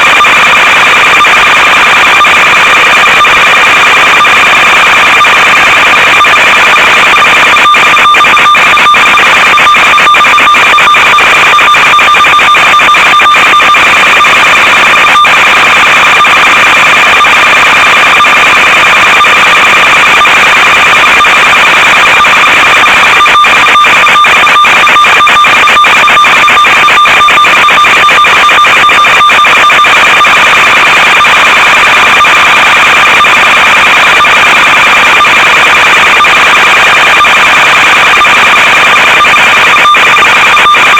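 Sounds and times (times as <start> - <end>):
rapid crackling clicks: 0.0 - 40.9.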